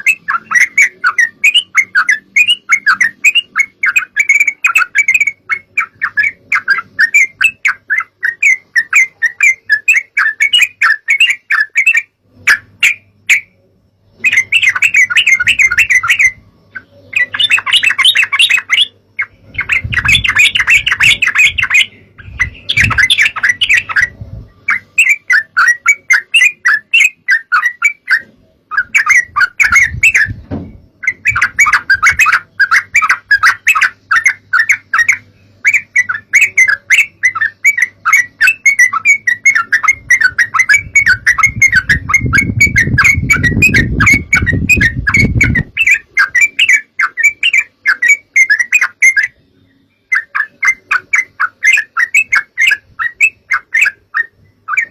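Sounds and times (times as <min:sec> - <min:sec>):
bird chattering: 0:00.0 - 0:49.4, 0:50.0 - 0:54.9.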